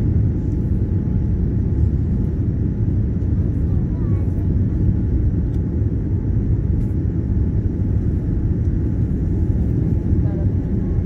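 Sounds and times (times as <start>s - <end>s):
airliner engines rumbling: 0.0s - 11.0s.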